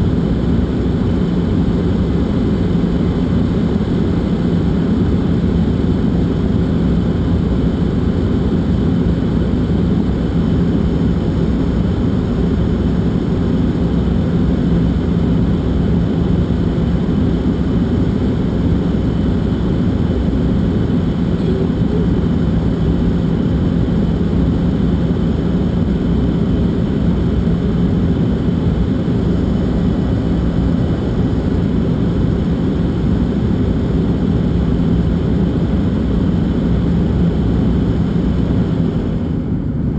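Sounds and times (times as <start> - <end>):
engine and airflow roar: 0.0 - 39.9
steady low hum: 0.0 - 39.9.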